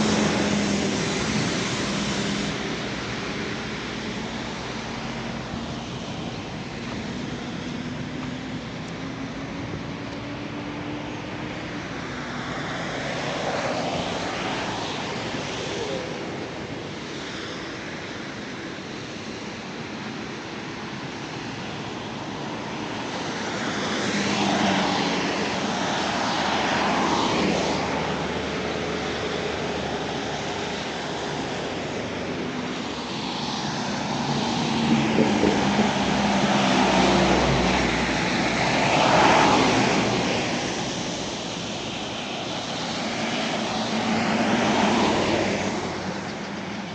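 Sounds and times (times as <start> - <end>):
vehicles passing: 0.0 - 46.9.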